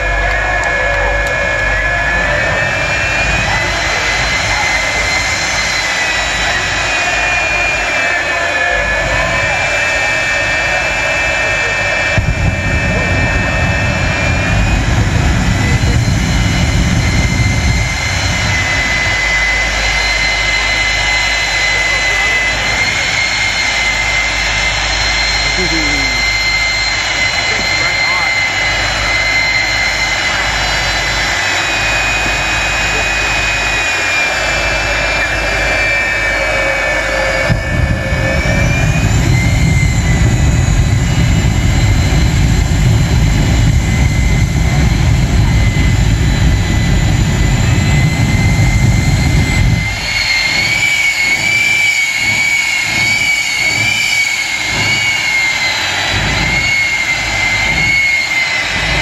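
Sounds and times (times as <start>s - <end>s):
afterburner rumbling blast: 0.0s - 59.0s
jet engine revving bursts: 0.0s - 59.0s
turbine engine high whine: 0.0s - 59.0s.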